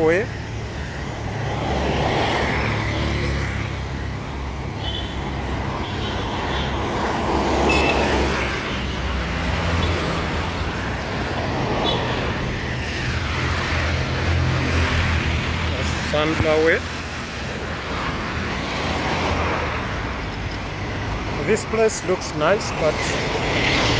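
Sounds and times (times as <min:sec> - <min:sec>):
road noise: 0:00.0 - 0:23.9
vehicle engines passing: 0:00.0 - 0:23.9.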